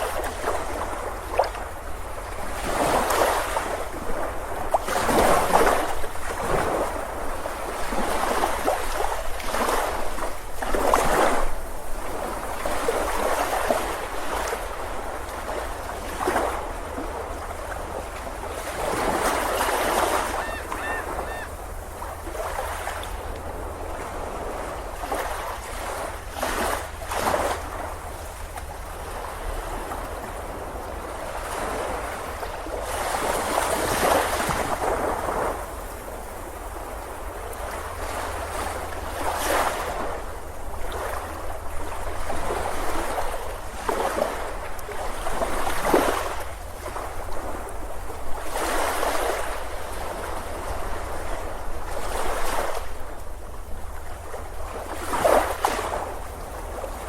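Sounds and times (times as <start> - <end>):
ocean waves breaking: 0.0 - 57.0.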